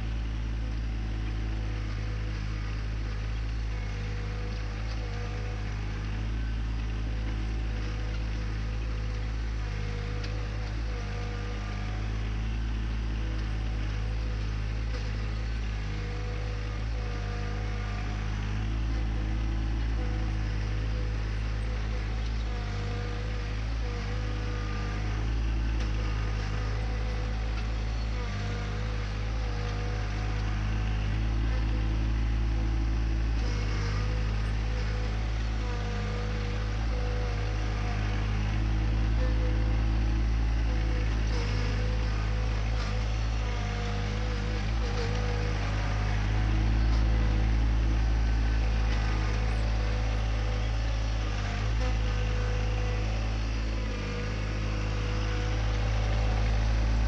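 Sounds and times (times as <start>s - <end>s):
tractor diesel engine droning: 0.0s - 57.0s
rake dragging across soil: 0.6s - 57.0s.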